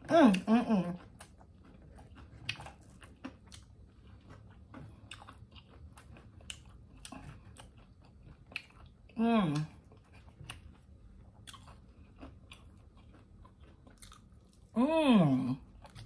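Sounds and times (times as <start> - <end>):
person chewing food: 0.0 - 14.8, 15.5 - 16.0.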